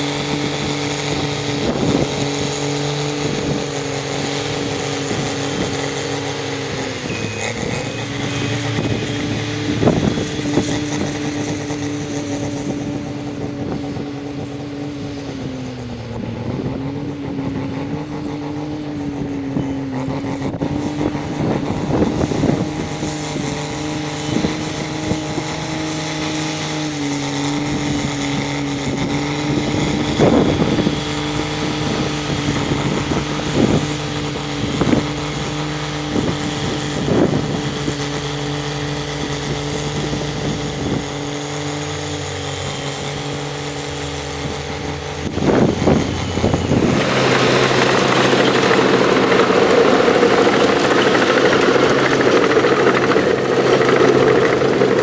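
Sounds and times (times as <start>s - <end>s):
diesel construction machinery running: 0.0s - 55.0s
rough loud engine: 0.0s - 55.0s.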